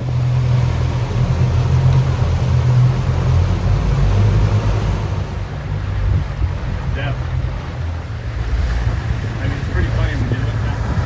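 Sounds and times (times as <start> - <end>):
outboard motors droning: 0.0 - 11.0
rushing water: 0.0 - 11.0
wind: 0.0 - 11.0.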